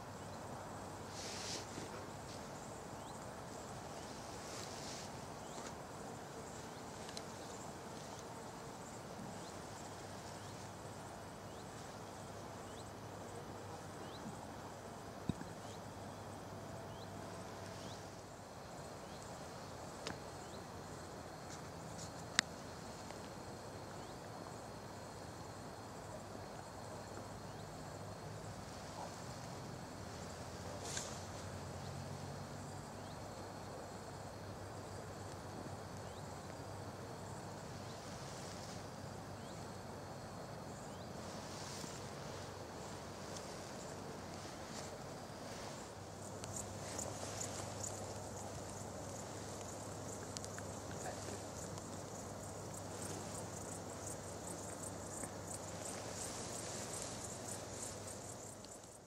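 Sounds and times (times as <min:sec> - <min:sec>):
insect chirps: 0:00.0 - 0:59.0
steady low hiss: 0:00.0 - 0:59.0.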